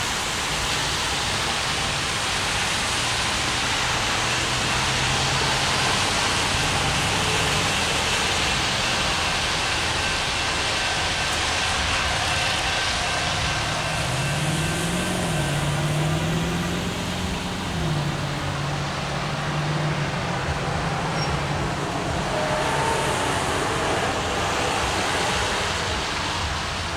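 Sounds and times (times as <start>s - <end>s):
locomotive engine drone: 0.0s - 26.9s
steady hiss: 0.0s - 26.9s.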